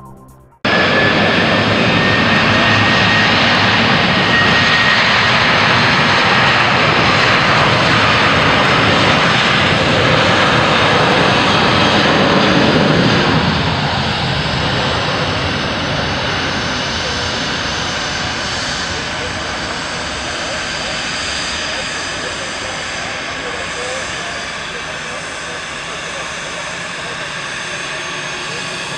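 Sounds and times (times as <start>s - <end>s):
jet engines at takeoff: 0.6s - 28.9s.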